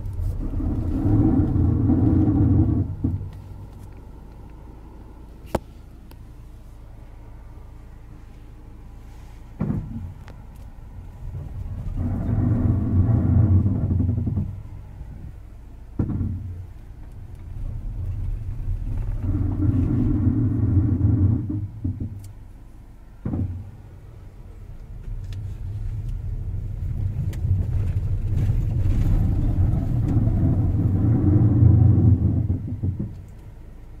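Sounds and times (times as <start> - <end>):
brakes groaning: 0.0 - 34.0.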